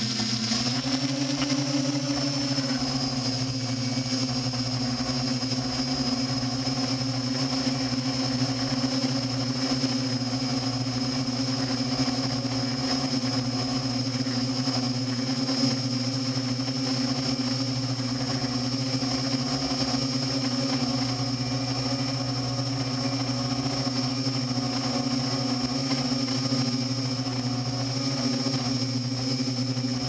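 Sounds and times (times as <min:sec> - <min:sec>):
drone motors humming: 0:00.0 - 0:30.0.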